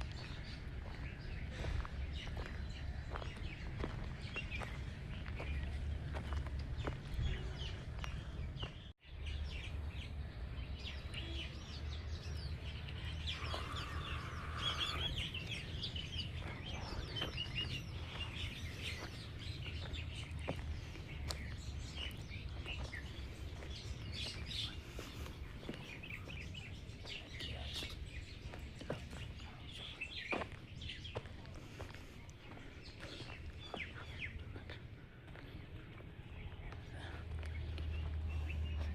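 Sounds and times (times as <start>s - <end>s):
small birds chirping: 0.0s - 38.9s
steady low rumble: 0.0s - 38.9s.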